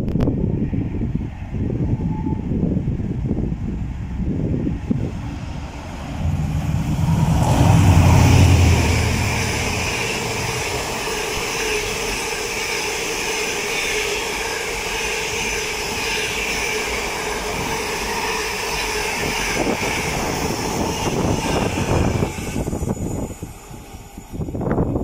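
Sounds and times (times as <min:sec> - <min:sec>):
freight train wheels rolling on rails: 0:00.0 - 0:25.0.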